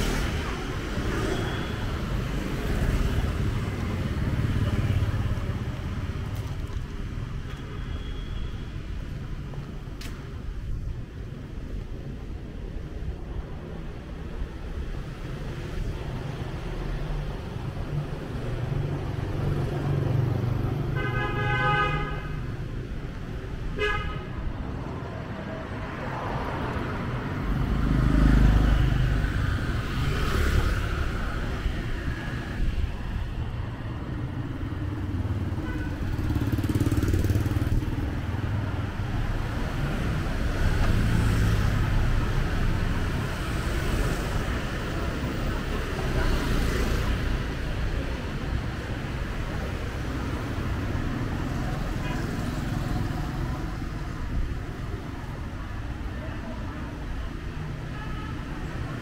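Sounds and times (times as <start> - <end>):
cars and motorbikes passing: 0.0 - 7.5, 8.8 - 59.0.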